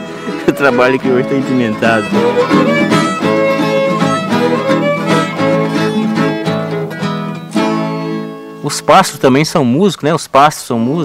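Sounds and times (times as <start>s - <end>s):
plucked strings: 0.0s - 9.4s
bowed fiddle melody: 0.0s - 9.5s.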